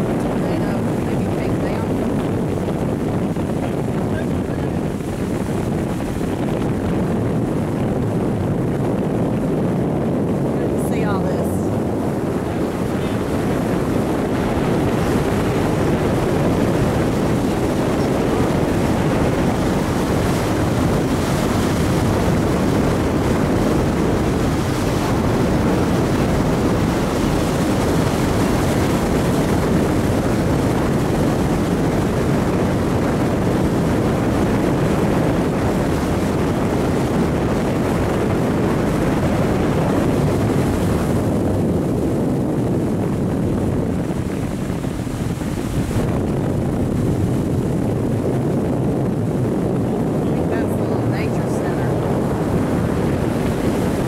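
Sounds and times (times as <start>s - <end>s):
boat motor running: 0.0s - 54.0s
water against hull: 0.0s - 54.0s
wind buffeting microphone: 0.0s - 54.0s.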